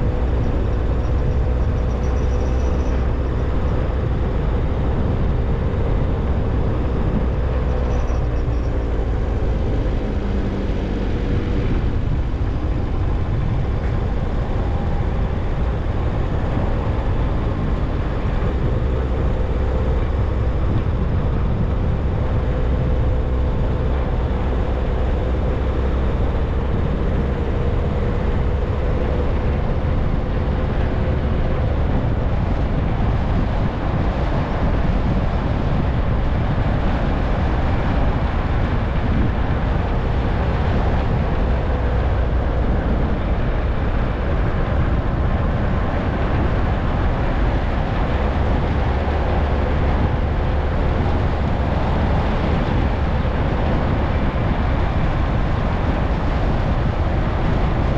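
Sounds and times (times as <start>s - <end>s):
faint whine: 0.0s - 57.9s
low rumble: 0.0s - 57.9s
vehicle road and wind noise: 0.0s - 57.9s.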